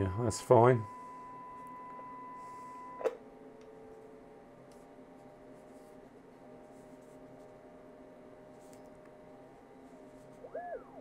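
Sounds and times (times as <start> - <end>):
faint hum and whine: 0.0 - 11.0.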